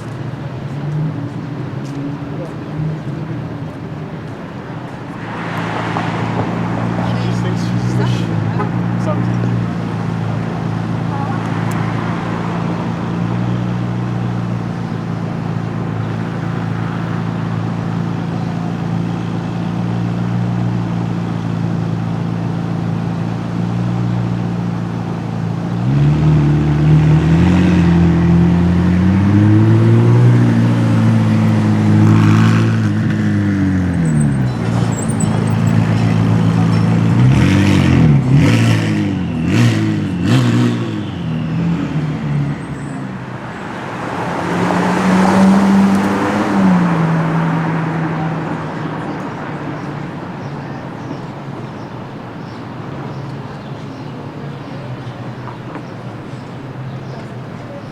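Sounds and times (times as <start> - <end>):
car engine idling and revving: 0.0 - 57.9.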